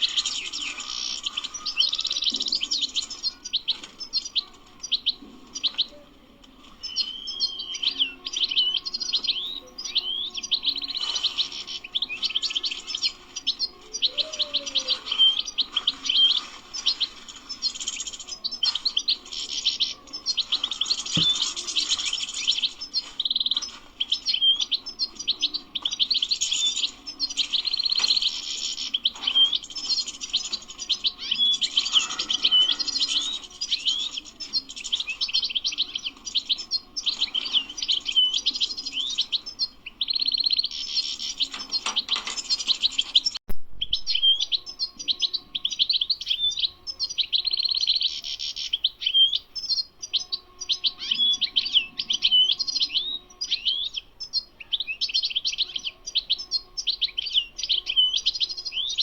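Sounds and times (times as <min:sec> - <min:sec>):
goldfinch twittering song: 0:06.8 - 0:59.0.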